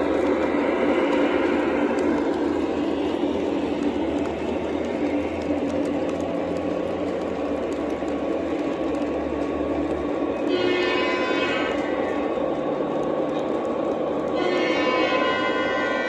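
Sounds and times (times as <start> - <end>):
model trains running on track: 0.0 - 16.0.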